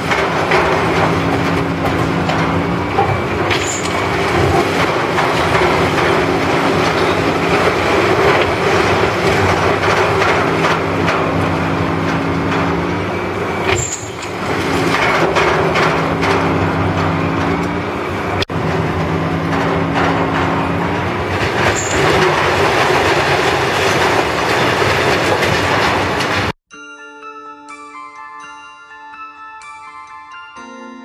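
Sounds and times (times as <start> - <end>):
concrete and steel crunching: 0.0 - 26.6
diesel engines humming: 0.0 - 26.6.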